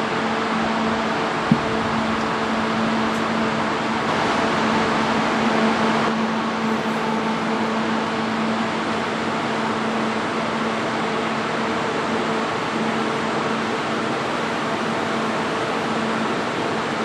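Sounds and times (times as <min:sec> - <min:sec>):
constant low hum: 0:00.0 - 0:17.0
train running slowly: 0:00.0 - 0:17.0.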